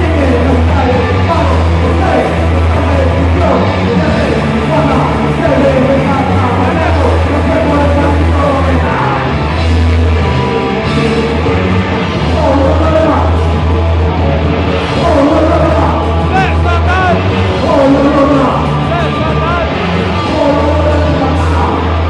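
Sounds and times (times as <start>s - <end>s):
bass line: 0.0s - 22.0s
dense guitar: 0.0s - 22.0s
loud rock band playing: 0.0s - 22.0s
vocals: 0.0s - 22.0s.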